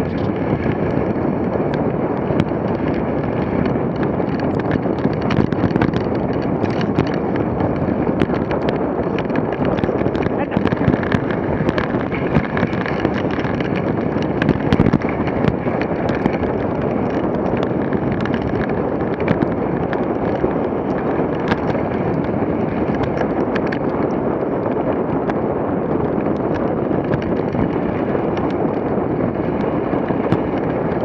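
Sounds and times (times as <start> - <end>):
sled clicks and knocks: 0.0 - 31.0
sled runners scraping on snow: 0.0 - 31.0.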